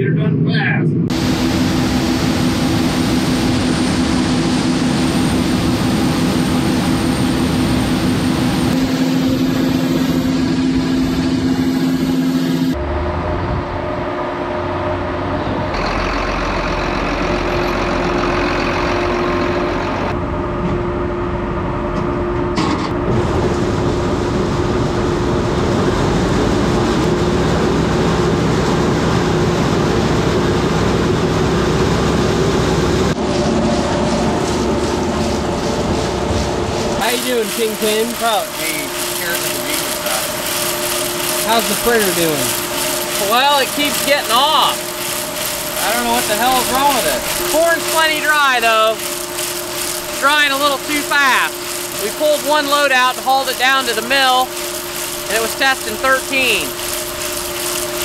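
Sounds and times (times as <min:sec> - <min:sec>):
diesel farm machinery humming: 0:01.1 - 0:58.0.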